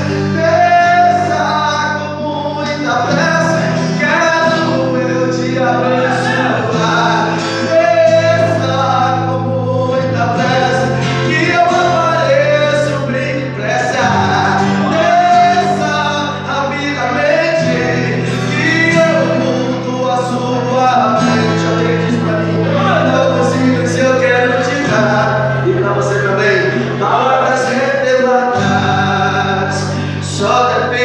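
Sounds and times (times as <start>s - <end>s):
gospel singing: 0.0s - 31.0s.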